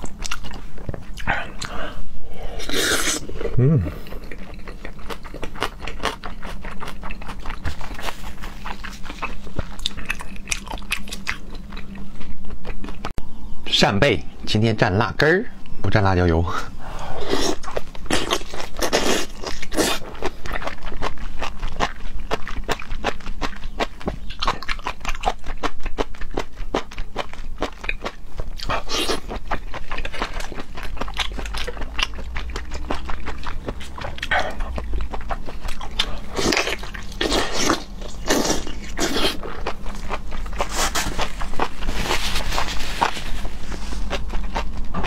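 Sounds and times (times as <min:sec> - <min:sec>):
wet chewing: 0:04.0 - 0:13.1, 0:17.2 - 0:45.0.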